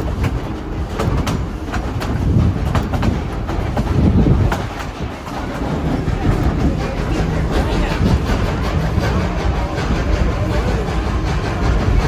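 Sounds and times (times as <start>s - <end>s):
train running with low rumble: 0.0s - 12.0s
wheels clicking over rail joints: 0.0s - 12.0s.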